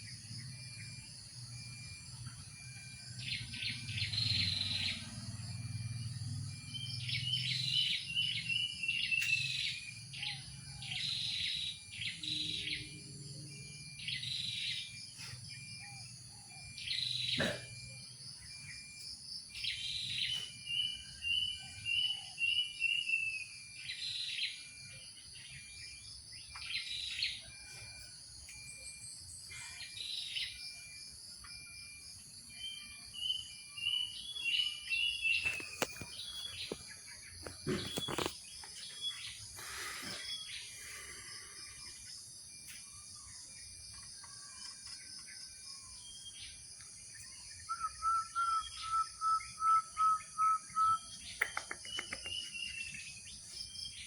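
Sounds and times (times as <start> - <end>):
high insect drone: 0.0 - 54.0
wild birds chirping: 0.0 - 54.0.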